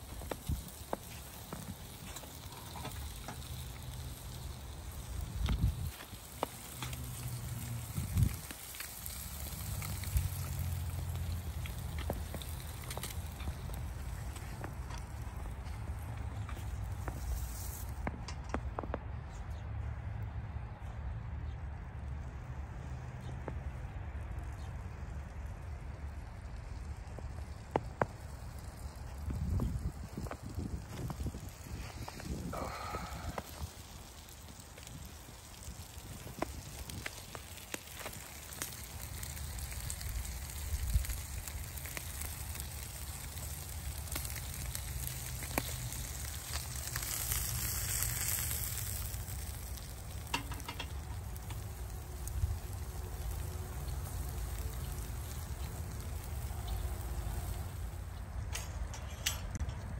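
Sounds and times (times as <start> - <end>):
fat sizzling on coals: 0.0 - 19.8, 21.7 - 59.9
charcoal fire crackling: 0.0 - 59.9
low outdoor rumble: 0.0 - 59.9.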